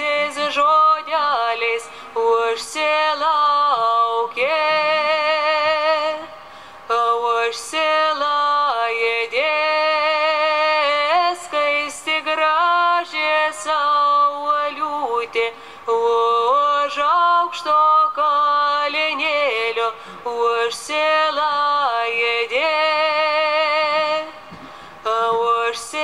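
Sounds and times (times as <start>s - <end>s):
woman singing slow song: 0.0s - 26.0s.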